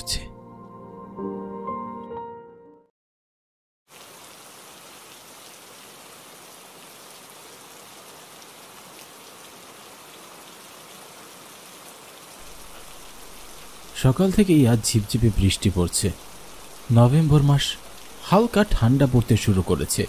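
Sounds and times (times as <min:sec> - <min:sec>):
steady rain falling: 0:03.9 - 0:20.0.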